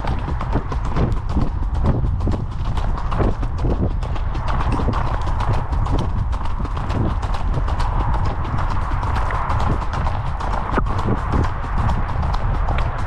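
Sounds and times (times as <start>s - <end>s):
horse hoofbeats: 0.0s - 13.0s
low rumble: 0.0s - 13.0s.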